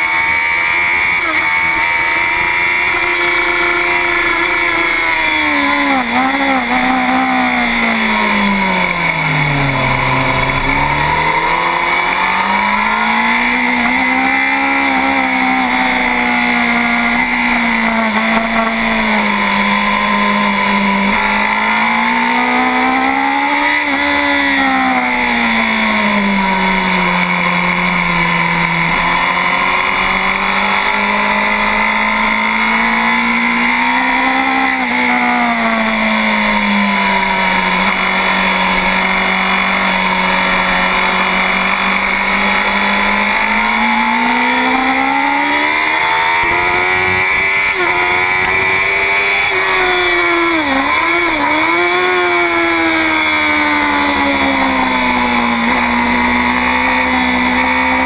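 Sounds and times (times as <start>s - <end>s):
motorcycle engine at racing speed: 0.0s - 58.0s.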